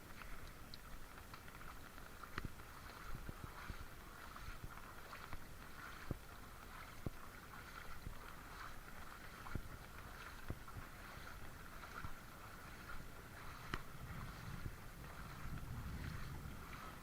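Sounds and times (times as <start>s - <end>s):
footsteps wading through water: 0.0s - 17.0s.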